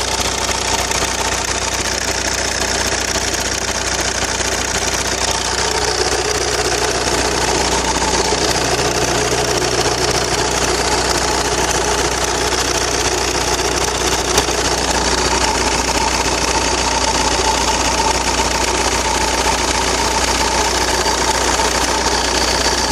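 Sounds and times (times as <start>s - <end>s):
diesel engine idling: 0.0s - 22.9s
spinning sound: 0.0s - 22.9s.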